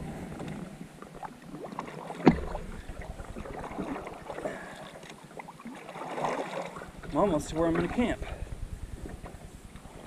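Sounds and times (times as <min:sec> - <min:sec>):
paddle strokes in water: 0:00.0 - 0:10.0.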